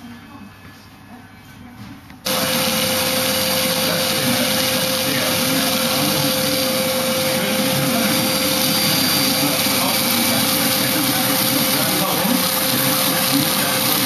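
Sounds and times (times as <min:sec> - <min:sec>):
buffing machine motor hum: 0:02.3 - 0:14.0.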